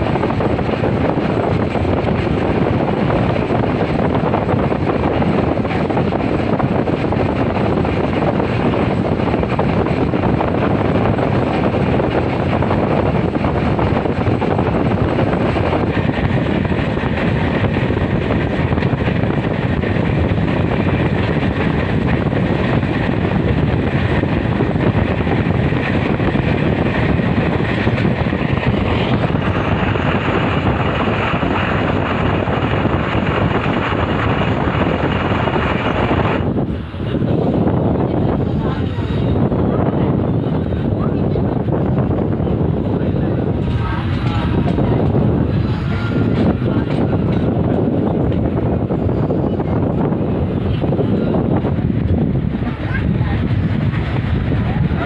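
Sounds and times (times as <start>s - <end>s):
air rushing past microphone: 0.0s - 55.0s
train wheels rumbling on rails: 0.0s - 55.0s.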